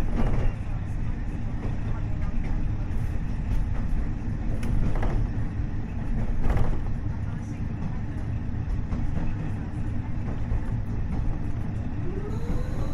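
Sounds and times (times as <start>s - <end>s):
railcar engine and wheels rumble: 0.0s - 12.9s.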